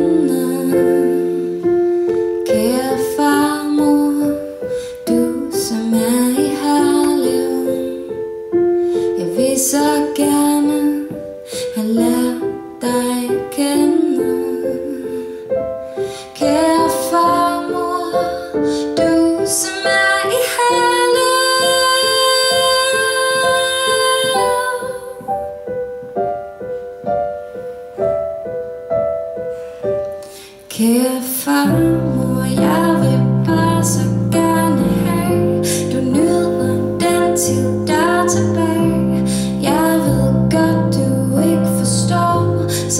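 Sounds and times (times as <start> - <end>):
woman singing: 0.0 - 25.6, 30.4 - 42.9
electric keyboard piano chords: 0.0 - 42.9.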